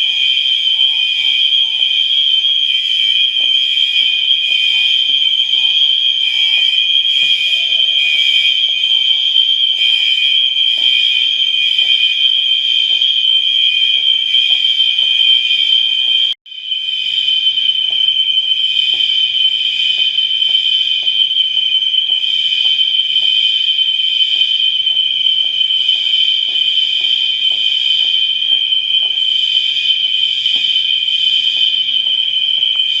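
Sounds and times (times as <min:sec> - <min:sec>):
faint fire alarm chime: 0:00.0 - 0:33.0
high-pitched fire alarm horns: 0:00.0 - 0:33.0.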